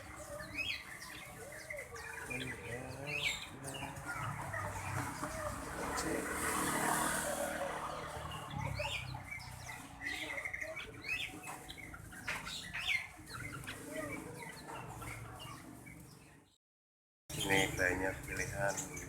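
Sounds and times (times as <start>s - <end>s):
birds chirping: 0.0s - 16.6s, 17.3s - 19.0s.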